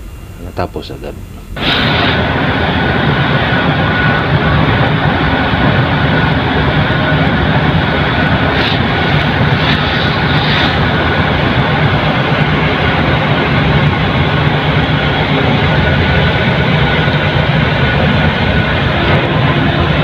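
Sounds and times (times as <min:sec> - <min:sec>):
loud engine drone: 0:00.0 - 0:20.0.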